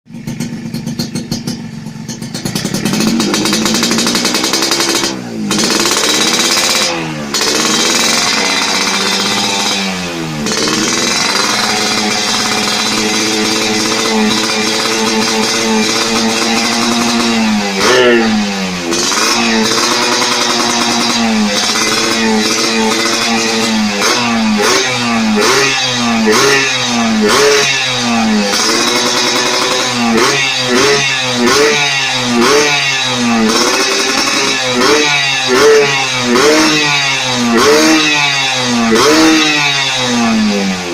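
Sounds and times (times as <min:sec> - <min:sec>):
engine revving: 0:00.2 - 0:40.9.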